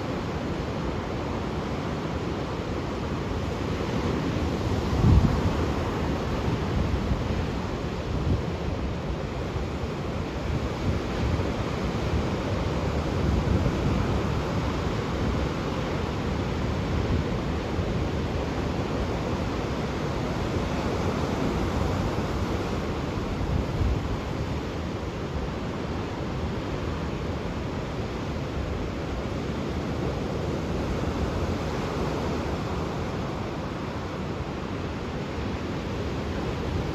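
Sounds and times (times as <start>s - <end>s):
ocean surf washing onto shore: 0.0s - 36.9s
wind rumbling on microphone: 0.0s - 36.9s.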